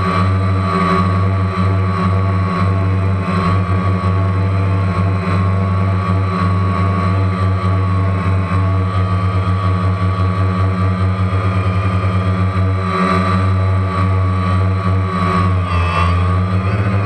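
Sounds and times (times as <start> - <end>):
drone motors humming: 0.0 - 17.0.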